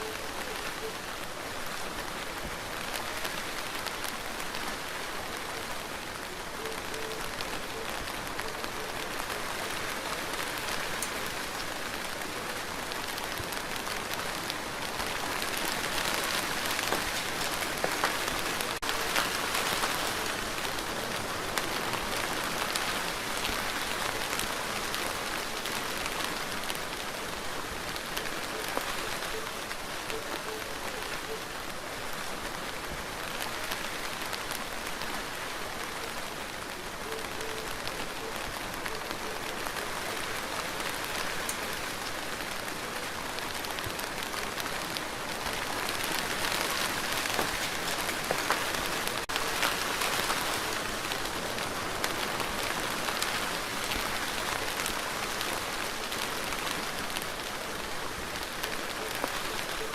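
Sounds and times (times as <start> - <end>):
steady rain on a surface: 0.0 - 59.9.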